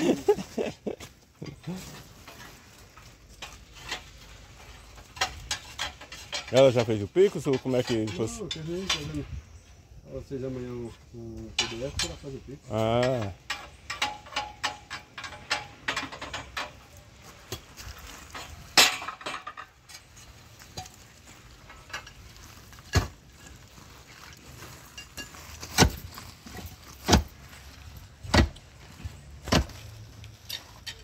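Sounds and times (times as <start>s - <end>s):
steel rods clanking: 1.4s - 9.3s, 11.4s - 28.7s, 29.4s - 31.0s.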